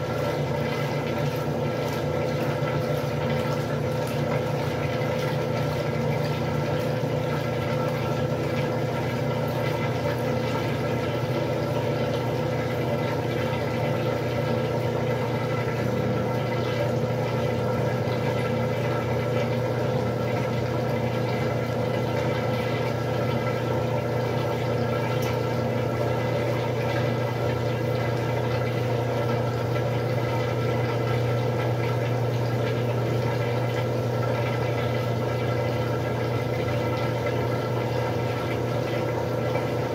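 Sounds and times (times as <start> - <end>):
washing machine motor hum: 0.0 - 39.9
water sloshing inside machine: 0.0 - 39.9.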